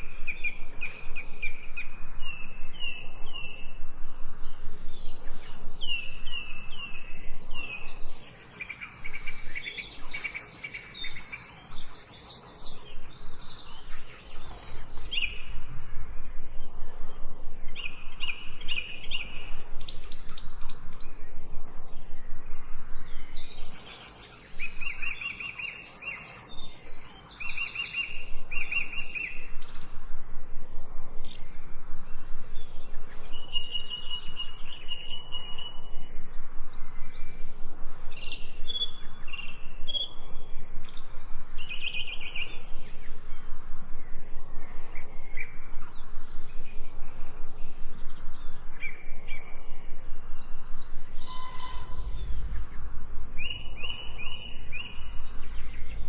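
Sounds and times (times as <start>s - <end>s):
songbirds singing: 0.0s - 56.0s
faint low hum: 11.0s - 56.0s.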